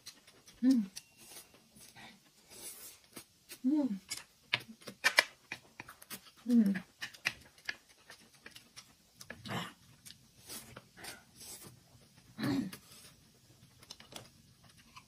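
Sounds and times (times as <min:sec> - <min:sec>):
chewing: 0:00.0 - 0:03.6, 0:04.6 - 0:12.3, 0:13.0 - 0:15.0.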